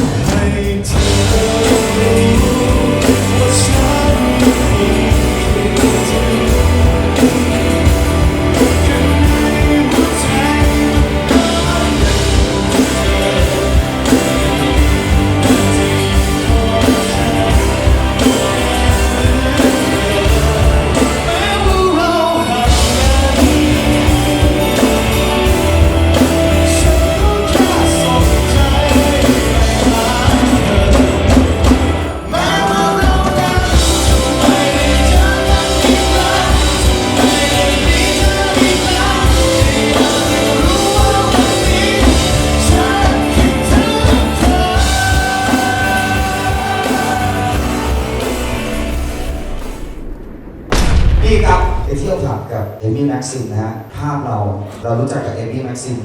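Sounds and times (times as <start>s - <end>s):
rock song with singer: 0.0s - 56.0s.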